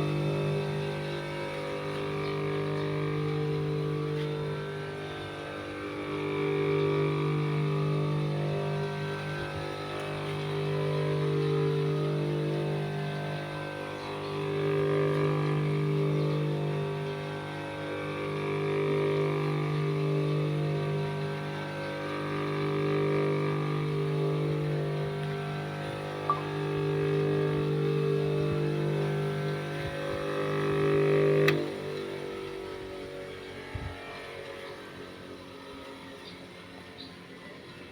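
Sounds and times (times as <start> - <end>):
bench grinder motor hum: 0.0 - 37.9.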